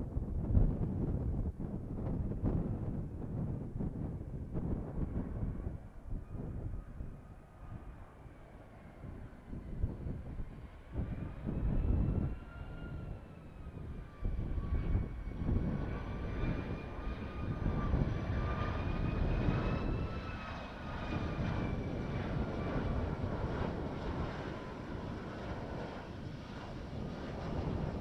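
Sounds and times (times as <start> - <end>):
jet engine whine: 0.0 - 28.0
jet engines rumbling: 1.8 - 28.0.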